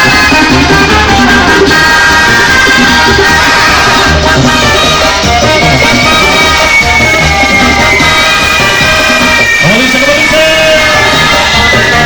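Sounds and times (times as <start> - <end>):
loud latin dance music with drums: 0.0 - 12.0.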